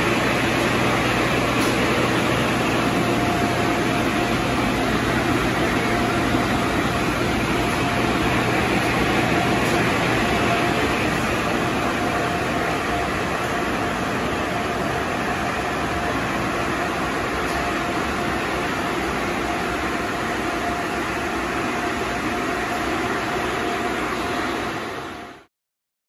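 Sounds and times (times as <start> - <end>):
air dryer blowers rushing: 0.0 - 25.4
faint steady whine: 0.0 - 25.5.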